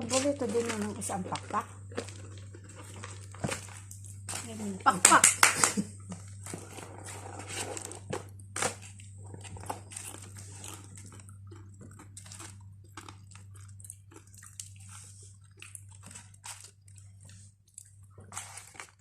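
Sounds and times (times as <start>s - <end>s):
person chewing crispy chicken: 1.4s - 4.5s, 5.7s - 19.0s.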